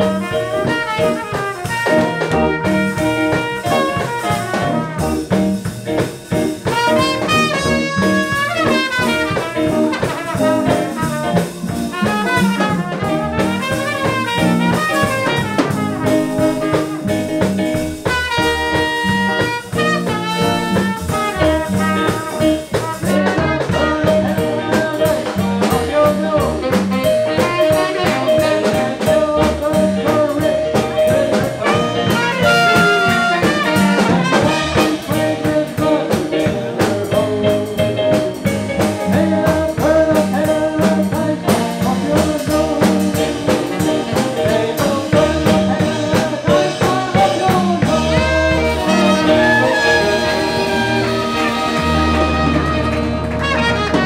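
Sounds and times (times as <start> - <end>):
trumpet: 0.0 - 5.7, 6.5 - 54.0
jazz band playing: 0.0 - 54.0
saxophone: 0.0 - 54.0.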